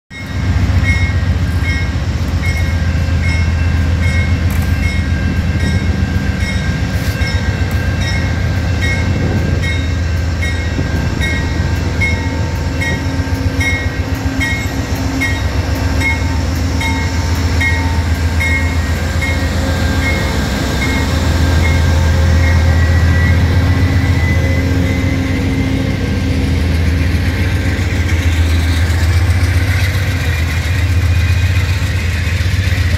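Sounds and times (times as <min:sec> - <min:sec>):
diesel locomotive engine throbbing: 0:00.1 - 0:32.9.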